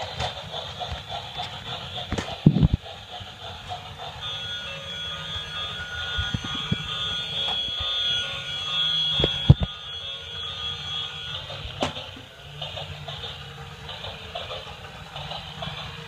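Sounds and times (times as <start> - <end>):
toy train motor whining: 0.0 - 16.0.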